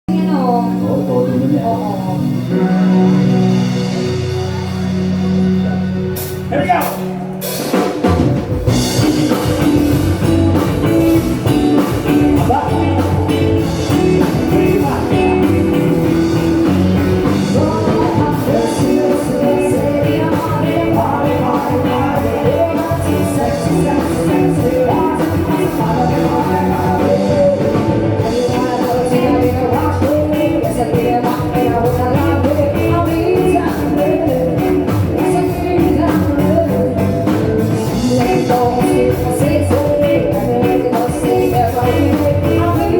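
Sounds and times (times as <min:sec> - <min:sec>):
drum kit steady beat: 0:00.1 - 0:42.9
rock band playing: 0:00.1 - 0:42.9.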